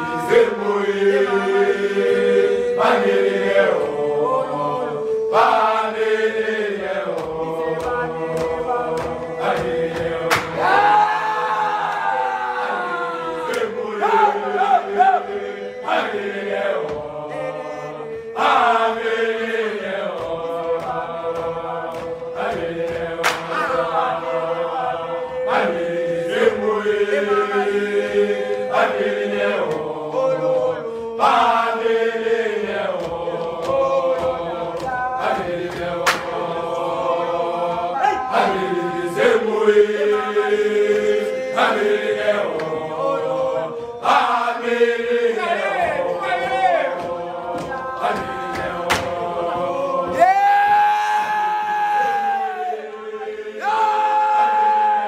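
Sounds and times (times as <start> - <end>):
voices singing chant in harmony: 0.0 - 55.0.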